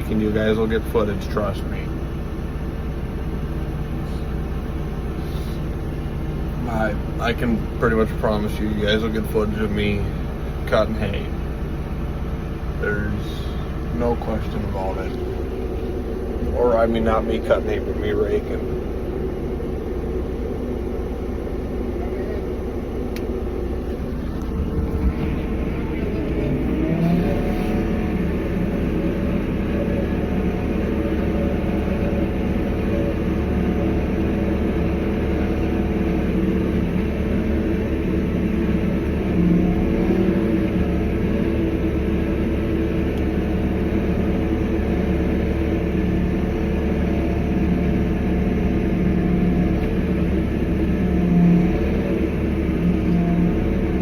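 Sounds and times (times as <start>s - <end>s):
vehicle engine droning under load: 0.0s - 54.0s.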